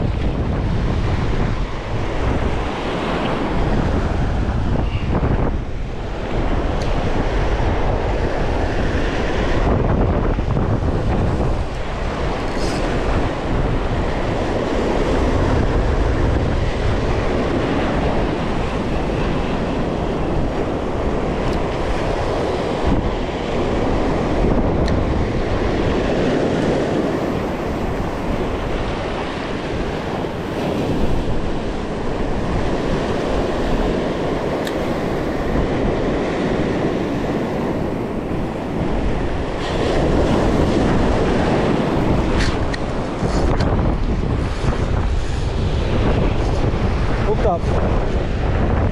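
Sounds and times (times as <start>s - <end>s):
surf washing over rocks: 0.0s - 48.9s
wind buffeting microphone: 0.0s - 48.9s.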